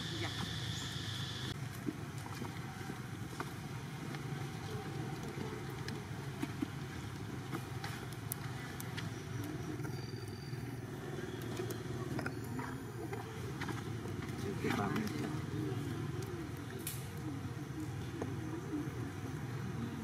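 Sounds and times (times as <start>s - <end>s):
small clicks and crackles: 1.5s - 10.6s, 11.3s - 18.4s.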